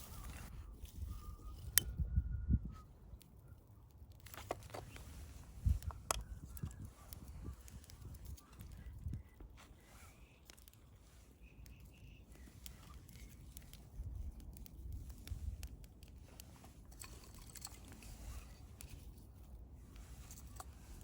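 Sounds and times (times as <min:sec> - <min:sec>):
wood fire crackling: 0:00.0 - 0:01.8, 0:03.0 - 0:21.0.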